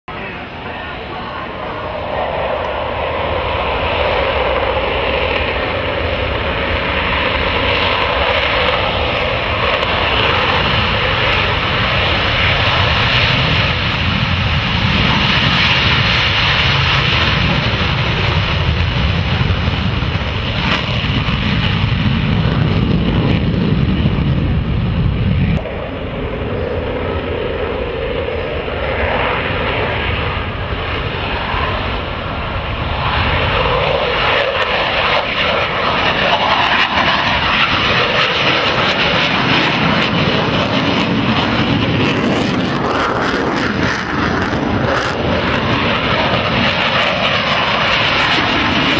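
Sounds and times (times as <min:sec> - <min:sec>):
fighter jet engines roaring: 0:00.1 - 0:48.9.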